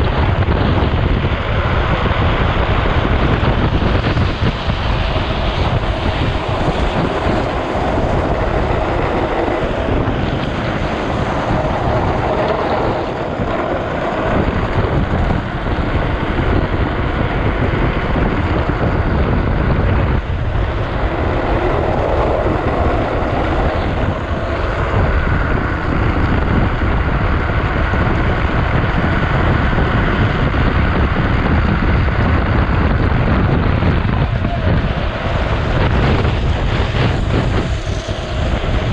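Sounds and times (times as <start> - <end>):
wheels sliding on wet asphalt: 0.0 - 38.9
wind buffeting microphone: 0.0 - 38.9.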